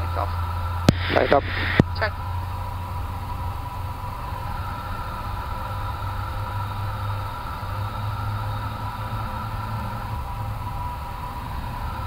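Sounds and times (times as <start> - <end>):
air hiss: 0.0 - 12.0
low engine drone: 0.0 - 12.0
whining tones: 0.0 - 12.0.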